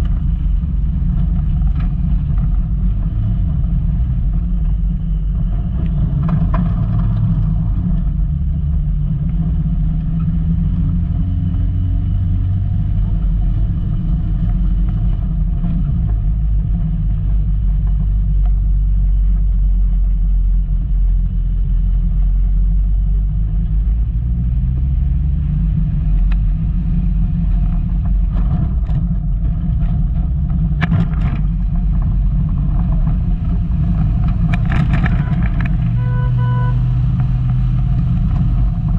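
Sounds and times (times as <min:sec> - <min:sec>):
car engine drone: 0:00.0 - 0:38.9.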